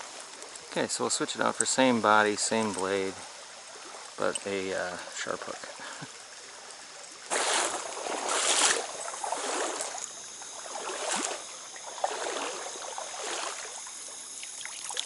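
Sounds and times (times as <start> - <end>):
stream water flowing: 0.0 - 15.0
water sloshing splashes: 0.0 - 15.0.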